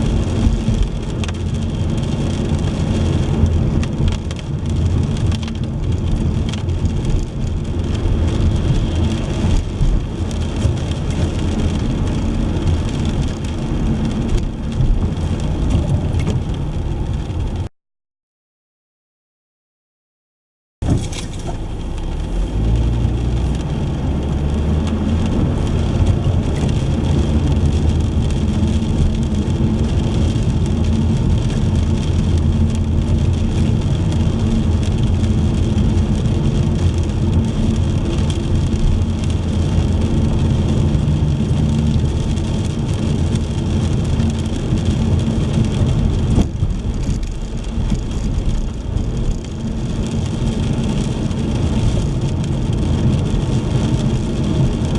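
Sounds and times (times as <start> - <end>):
car road and engine rumble: 0.0 - 17.7, 20.8 - 54.9.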